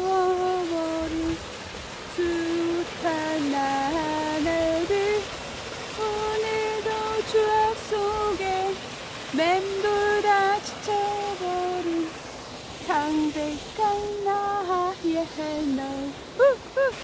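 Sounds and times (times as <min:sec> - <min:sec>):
woman singing: 0:00.0 - 0:01.4, 0:02.1 - 0:05.3, 0:05.9 - 0:12.2, 0:12.9 - 0:17.0
stream rushing: 0:00.0 - 0:17.0.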